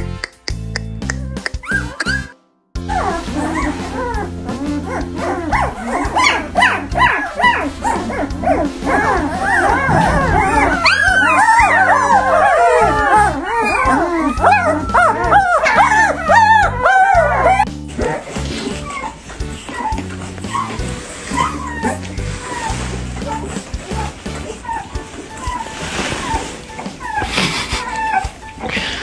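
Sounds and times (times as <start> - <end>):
background music: 0.0 - 29.0
puppies whining and yipping: 1.4 - 29.0.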